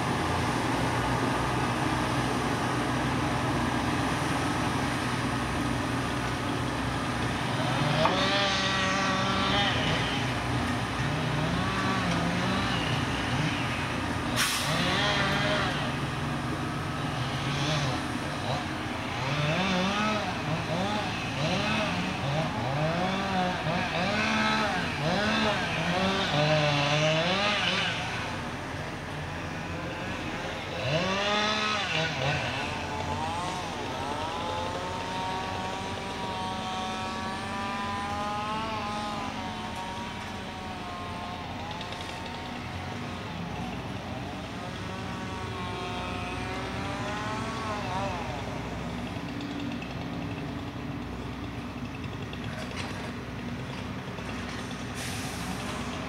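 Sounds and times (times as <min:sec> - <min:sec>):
log loader diesel engine and hydraulics: 0:00.0 - 0:56.0.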